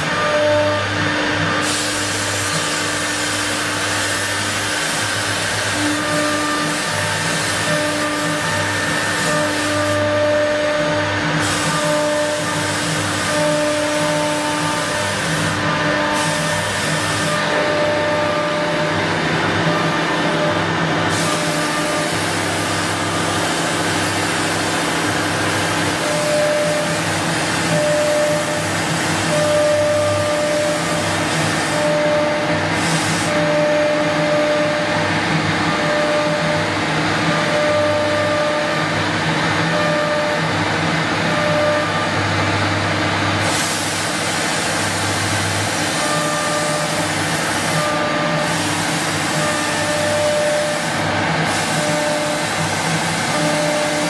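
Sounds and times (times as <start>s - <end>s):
wood router cutting: 0.0s - 42.5s, 43.2s - 54.0s.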